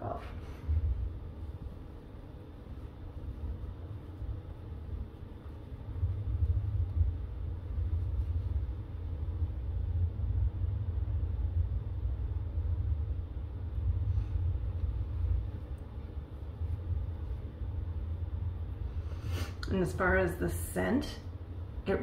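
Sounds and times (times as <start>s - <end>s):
low uneven rumble: 0.0s - 22.0s.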